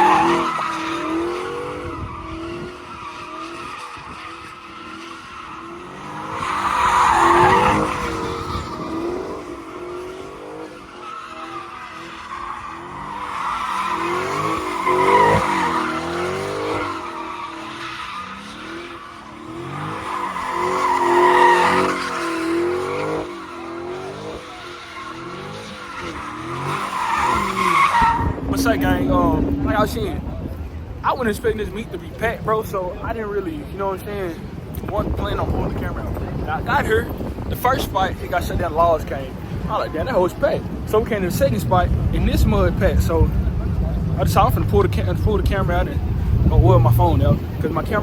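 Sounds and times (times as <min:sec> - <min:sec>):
car engine revving: 0:00.0 - 0:31.5, 0:39.0 - 0:48.0
car tires screeching: 0:00.0 - 0:48.0.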